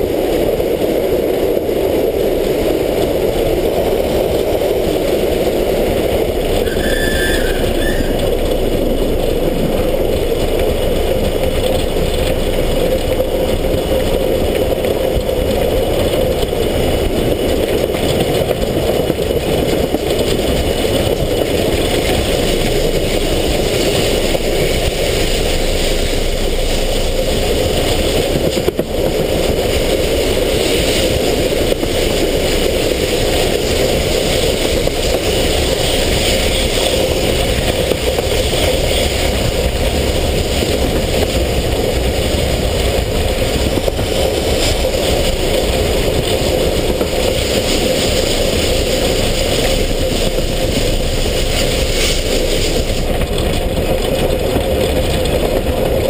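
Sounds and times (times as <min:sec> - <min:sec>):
steam locomotive wheels clattering: 0:00.0 - 0:56.0.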